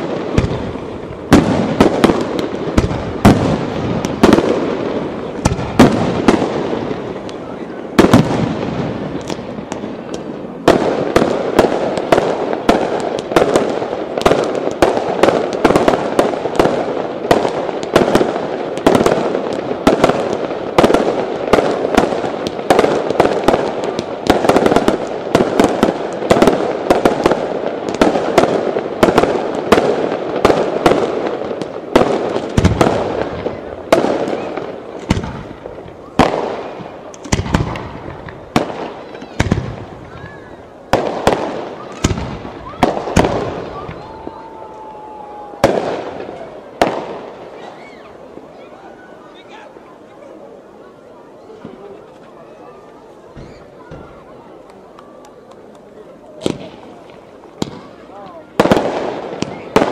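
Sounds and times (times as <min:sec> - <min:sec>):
fireworks bursts and bangs: 0:00.0 - 0:59.9.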